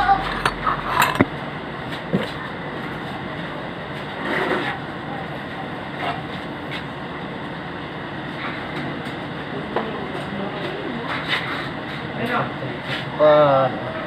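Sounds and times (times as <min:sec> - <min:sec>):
machine or fan running: 0:00.0 - 0:14.0.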